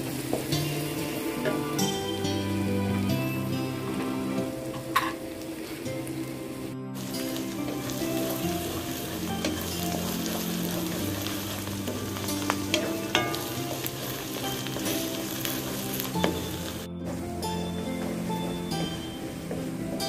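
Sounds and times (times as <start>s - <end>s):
onions sizzling in hot oil: 0.0s - 20.0s
soft background music: 0.0s - 20.0s.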